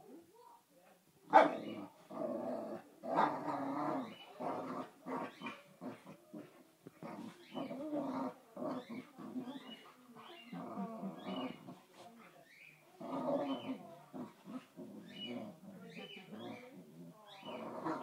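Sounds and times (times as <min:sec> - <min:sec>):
dogs growling: 0:01.3 - 0:18.0.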